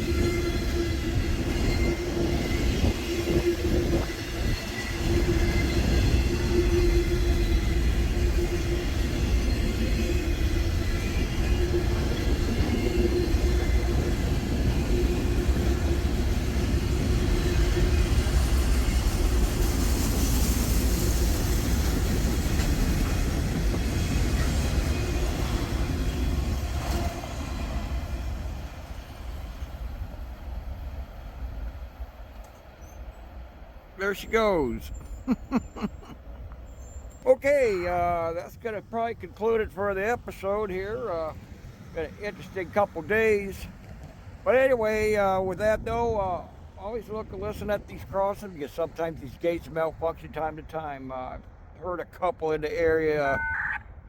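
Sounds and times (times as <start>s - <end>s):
freight train wheels rumbling: 0.0s - 53.4s.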